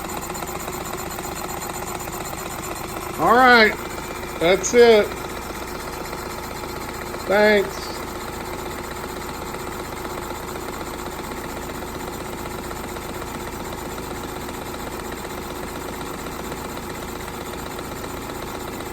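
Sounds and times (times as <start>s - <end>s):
toy steam engine running: 0.0s - 18.9s.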